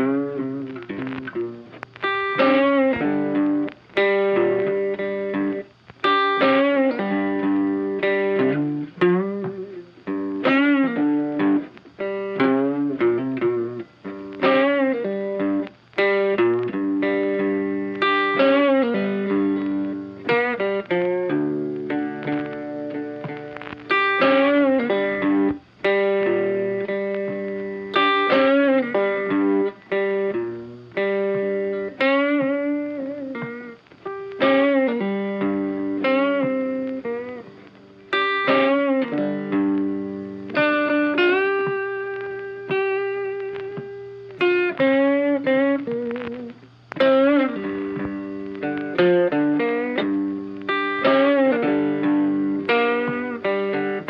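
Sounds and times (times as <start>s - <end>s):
funky plucked background music: 0.0s - 54.0s.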